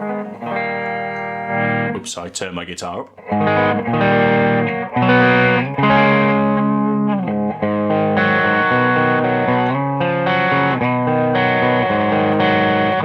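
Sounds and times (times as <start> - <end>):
overdriven electric guitar chords: 0.0 - 2.1, 3.2 - 13.0.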